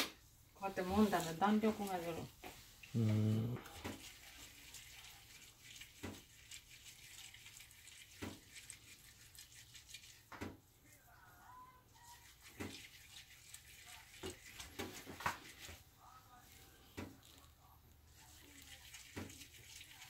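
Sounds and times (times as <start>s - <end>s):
dried gourd strips kneaded by hand: 0.3s - 20.0s.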